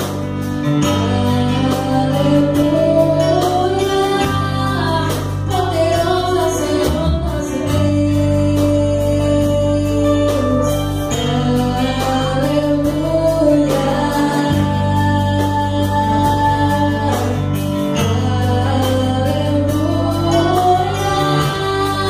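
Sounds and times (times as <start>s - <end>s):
drum kit: 0.0s - 22.0s
electric bass: 0.0s - 22.0s
keyboard: 0.0s - 22.0s
women's choir singing gospel: 0.9s - 22.0s.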